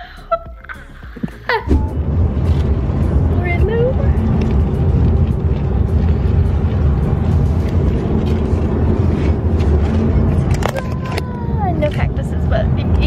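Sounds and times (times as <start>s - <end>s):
car road noise rumble: 0.7s - 13.0s.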